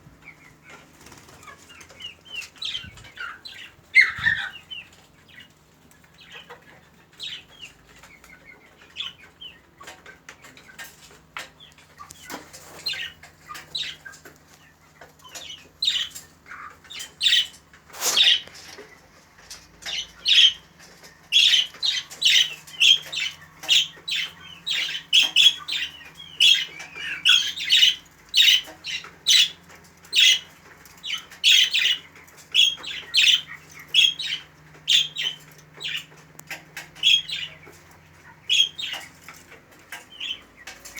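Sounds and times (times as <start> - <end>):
birds chirping and calling: 0.1 - 40.9.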